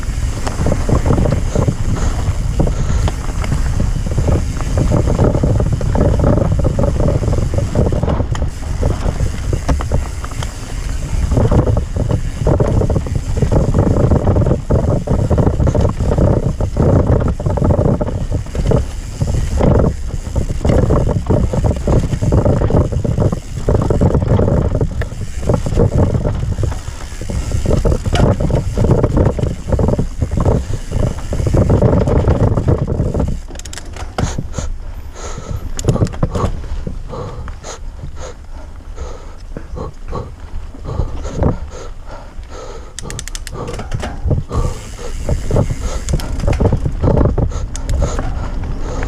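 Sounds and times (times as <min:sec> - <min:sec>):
bike rattling clicks and knocks: 0:00.0 - 0:49.0
tyres rumbling on dirt: 0:00.0 - 0:49.0
wind buffeting microphone: 0:00.0 - 0:49.0.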